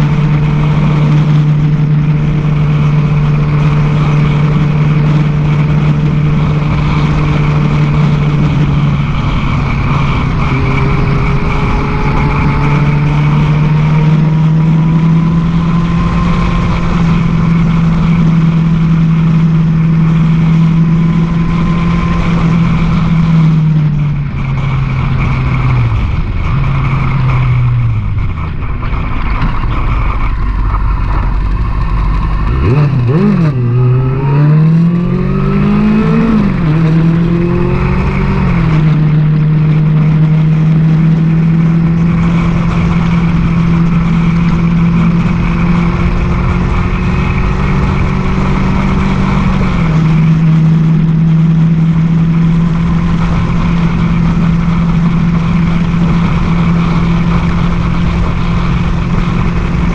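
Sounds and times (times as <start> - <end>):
motorcycle engine running: 0.0 - 59.9
wind on microphone: 0.0 - 59.9.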